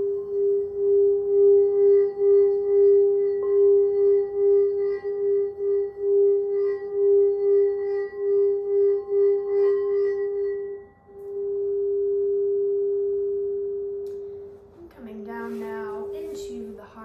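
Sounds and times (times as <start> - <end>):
crystal singing bowl tone: 0.0 - 17.0.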